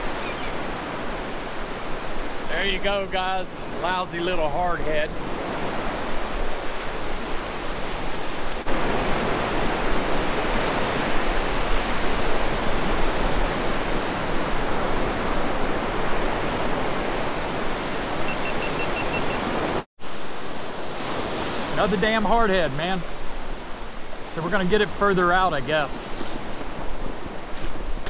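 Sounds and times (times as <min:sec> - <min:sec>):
surf washing onto sandy beach: 0:00.0 - 0:18.2, 0:20.0 - 0:28.0.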